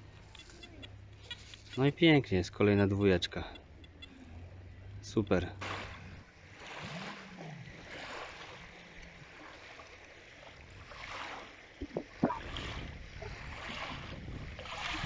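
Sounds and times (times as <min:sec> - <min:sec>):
small waves lapping: 0:00.0 - 0:15.0.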